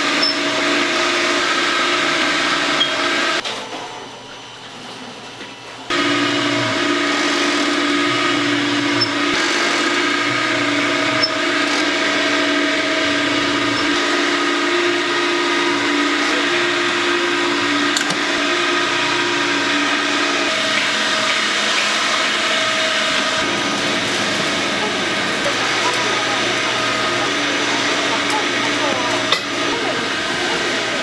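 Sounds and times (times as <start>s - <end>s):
machine motor hum and whine: 0.0s - 3.4s, 5.7s - 31.0s.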